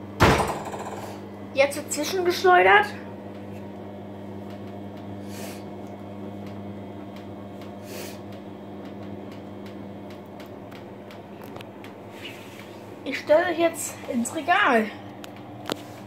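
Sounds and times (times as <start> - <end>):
washing machine spinning hum: 0.0 - 16.0.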